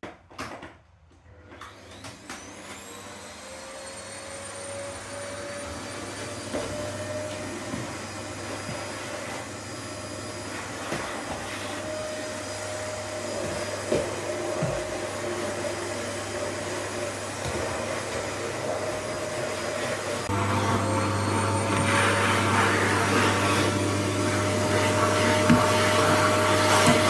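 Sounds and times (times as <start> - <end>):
vacuum cleaner running: 1.3 - 27.0.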